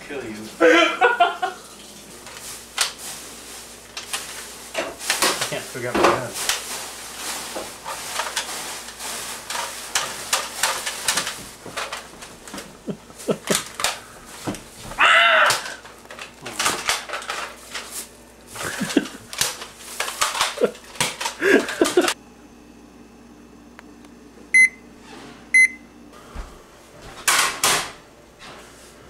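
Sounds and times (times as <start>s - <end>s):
steady room hum: 0.0s - 29.0s.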